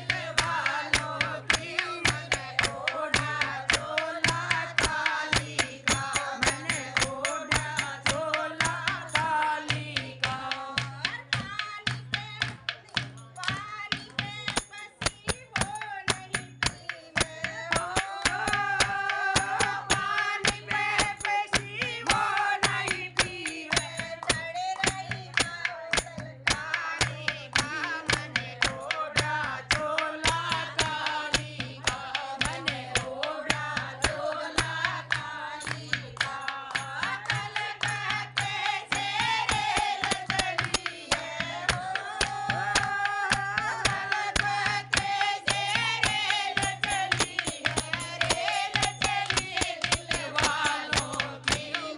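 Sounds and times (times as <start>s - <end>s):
hand claps: 0.0s - 51.9s
women singing devotional song: 0.0s - 51.9s.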